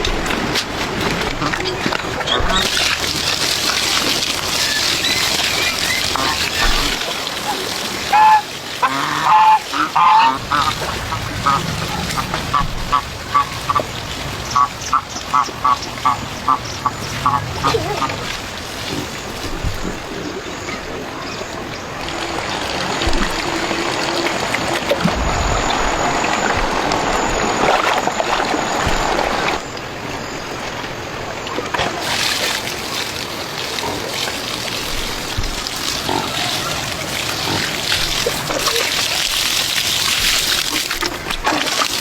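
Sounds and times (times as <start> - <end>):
water splashing and trickling: 0.0 - 42.0.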